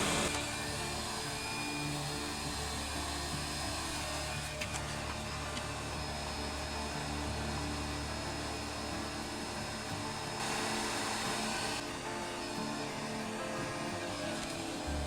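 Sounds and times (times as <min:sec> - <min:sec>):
hot air tool hissing: 0:00.0 - 0:15.0.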